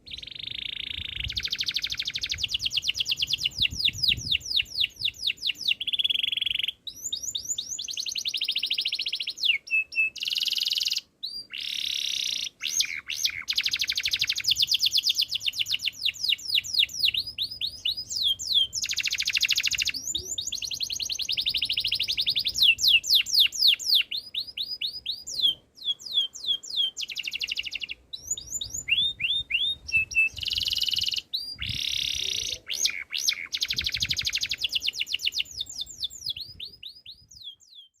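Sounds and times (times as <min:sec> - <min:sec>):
canary singing: 0:00.0 - 0:38.0.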